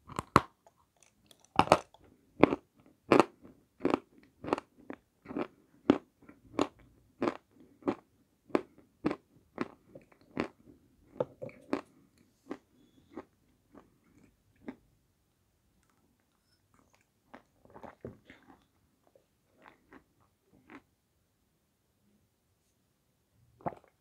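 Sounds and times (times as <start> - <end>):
crunching and chewing: 0.0 - 14.8, 15.8 - 20.9.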